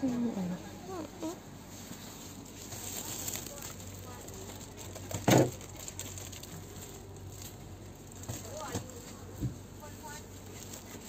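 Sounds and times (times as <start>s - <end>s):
low hum of supermarket: 0.0s - 11.0s.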